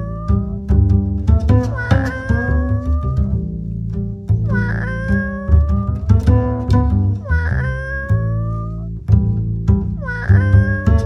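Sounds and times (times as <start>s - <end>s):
plucked and bowed bass line: 0.0s - 11.0s.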